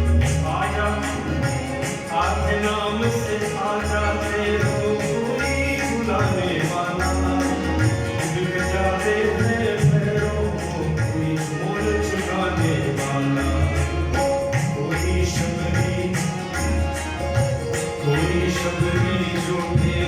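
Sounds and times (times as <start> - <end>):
devotional music: 0.0 - 20.0
jingling percussion strikes: 0.0 - 20.0.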